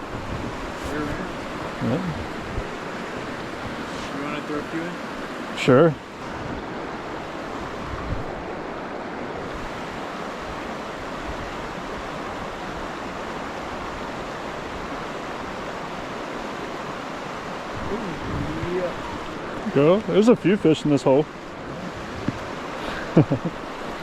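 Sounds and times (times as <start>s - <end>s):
stream rushing: 0.0s - 24.0s.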